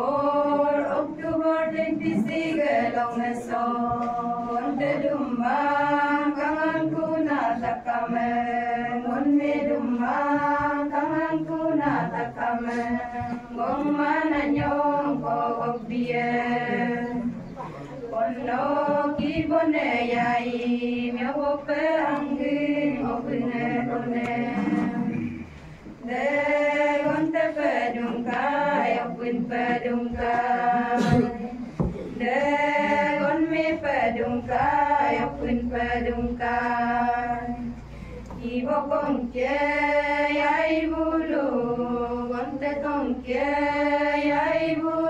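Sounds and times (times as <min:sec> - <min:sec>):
women singing unaccompanied: 0:00.0 - 0:45.0.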